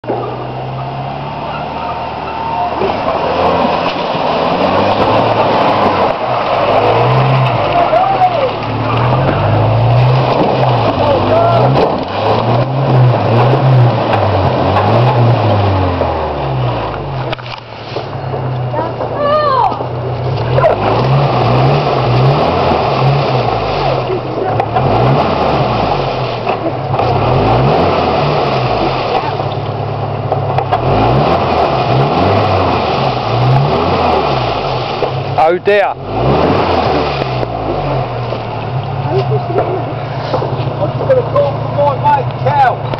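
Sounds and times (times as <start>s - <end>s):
suv engine revving: 0.0s - 42.9s
wheels churning through mud: 0.0s - 42.9s.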